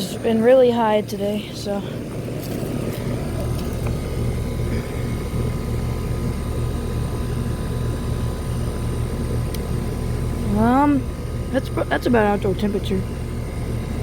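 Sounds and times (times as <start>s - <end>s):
compressor low hum: 0.0s - 14.0s
condenser fan rushing: 0.0s - 14.0s.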